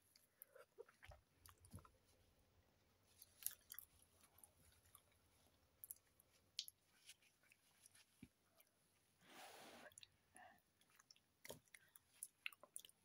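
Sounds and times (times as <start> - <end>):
quiet chewing: 0.0 - 2.3, 3.0 - 9.1, 9.7 - 13.0.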